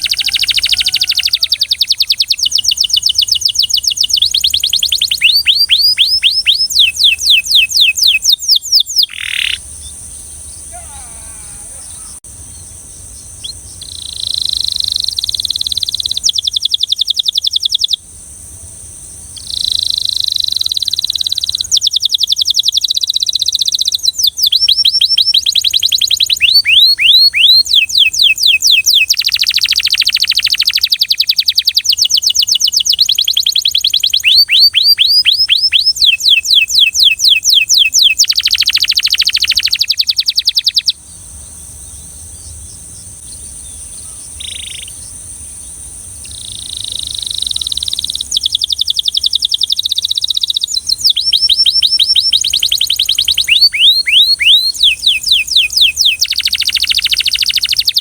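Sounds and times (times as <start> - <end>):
canary singing: 0.0 - 18.0, 19.4 - 41.0, 41.9 - 58.0.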